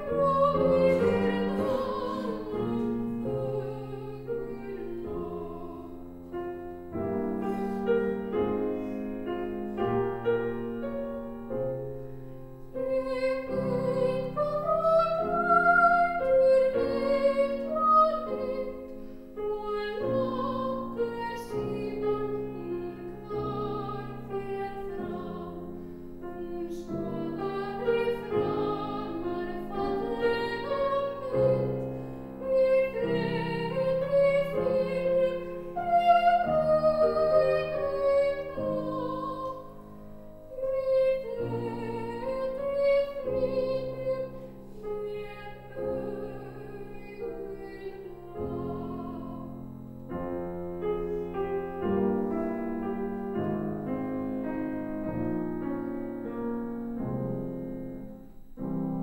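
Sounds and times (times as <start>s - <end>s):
grand piano accompaniment: 0.0s - 59.0s
soprano singing: 0.0s - 59.0s.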